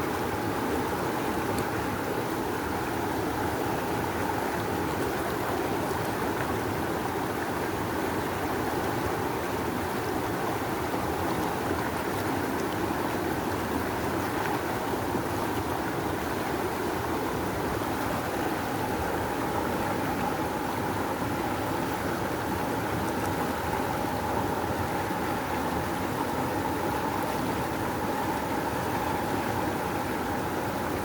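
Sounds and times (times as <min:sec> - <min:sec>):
rushing river water: 0:00.0 - 0:31.0.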